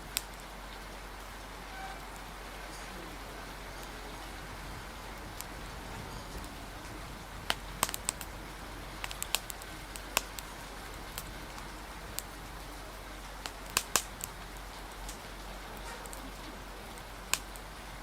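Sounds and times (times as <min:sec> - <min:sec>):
rain hissing: 0:00.0 - 0:18.0
wood fire crackling and popping: 0:00.0 - 0:18.0.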